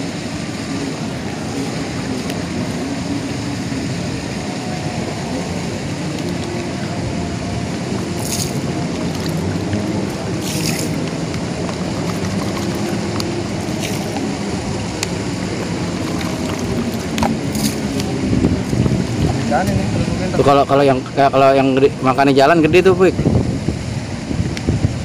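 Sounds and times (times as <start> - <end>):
distant engine rumble: 0.0 - 25.0.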